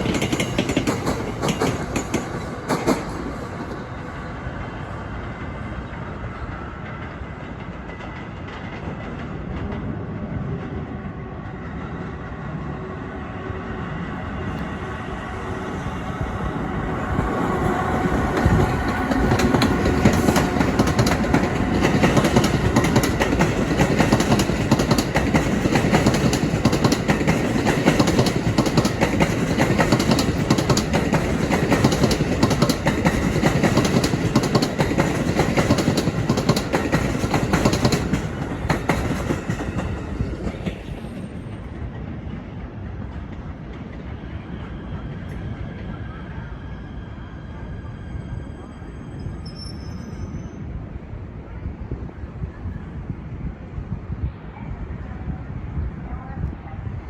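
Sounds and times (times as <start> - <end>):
train passing close by: 0.0 - 57.0.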